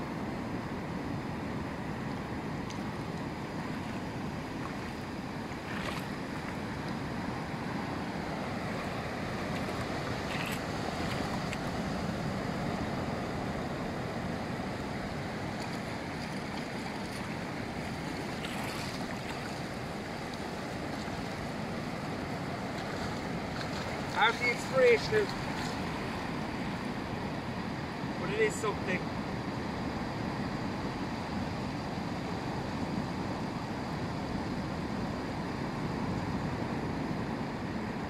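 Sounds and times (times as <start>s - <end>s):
surf washing onto sandy beach: 0.0s - 38.0s.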